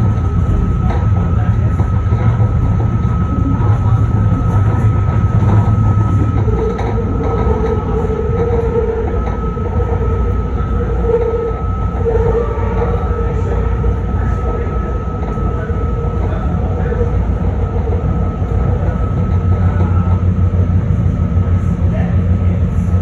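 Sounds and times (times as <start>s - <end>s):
steady high tones: 0.0s - 21.6s
train low rumble: 0.0s - 23.0s.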